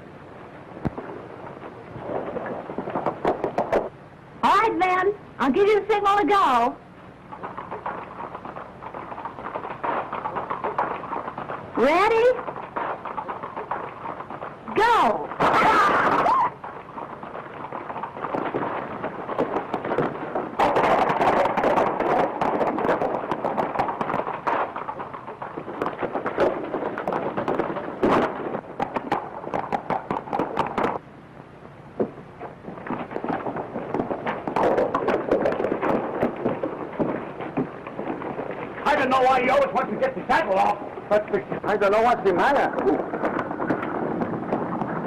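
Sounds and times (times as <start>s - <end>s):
horses galloping: 0.0s - 45.0s.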